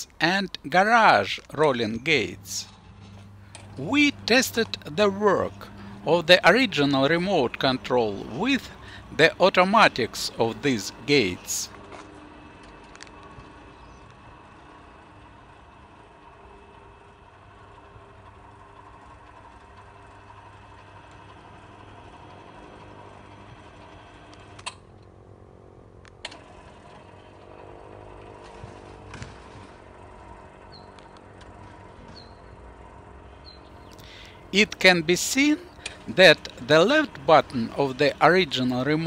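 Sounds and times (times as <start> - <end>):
garage door opener running: 0.0 - 39.0.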